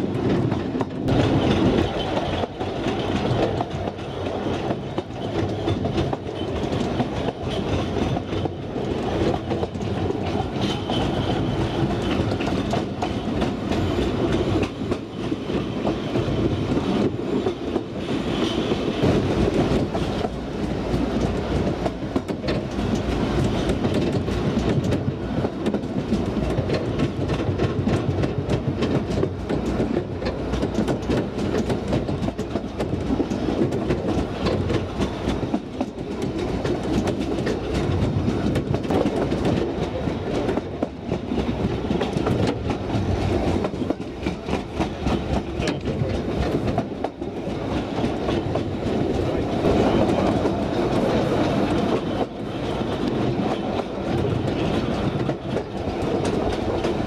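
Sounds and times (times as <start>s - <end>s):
clickety-clack rail clicks: 0.0s - 57.0s
wheels rumbling on rails: 0.0s - 57.0s.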